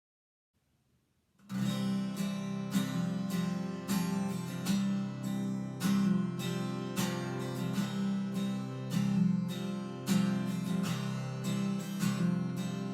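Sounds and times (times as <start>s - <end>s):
strummed acoustic guitar: 1.4s - 12.9s.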